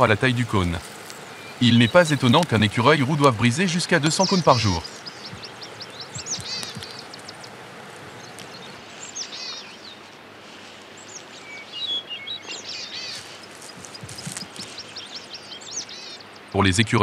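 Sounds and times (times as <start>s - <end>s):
songbirds chirping: 0.0s - 17.0s
steady outdoor hiss: 0.0s - 17.0s.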